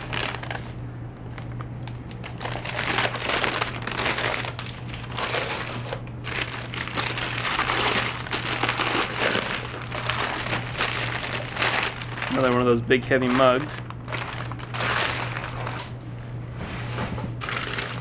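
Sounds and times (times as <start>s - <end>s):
paper crinkling and rustling: 0.0s - 16.0s, 17.4s - 18.0s.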